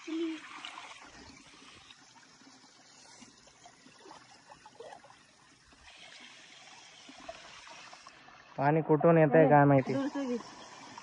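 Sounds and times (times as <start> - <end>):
small water splashes: 0.0 - 11.0
stream trickling over rocks: 0.0 - 11.0.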